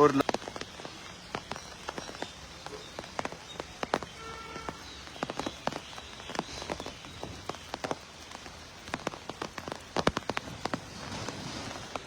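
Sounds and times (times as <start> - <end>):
raindrops tapping nearby: 0.0 - 12.0
steady rain: 0.0 - 12.0.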